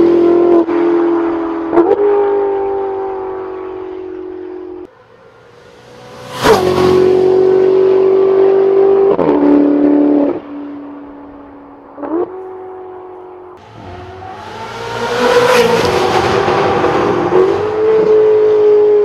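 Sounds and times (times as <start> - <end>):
sports car engine passing: 0.9 - 19.0.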